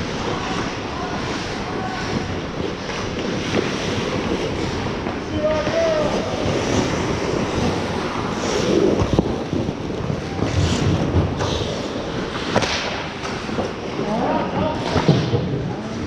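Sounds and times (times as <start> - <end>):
rink noise rush: 0.0 - 16.0
skate scrapes on ice: 0.0 - 16.0
sticks and puck clacking: 0.0 - 16.0.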